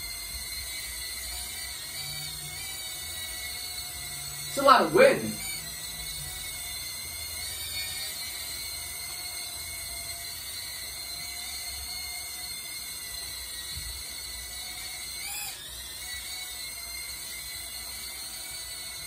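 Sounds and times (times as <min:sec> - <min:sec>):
toy drone whining: 0:00.0 - 0:19.0.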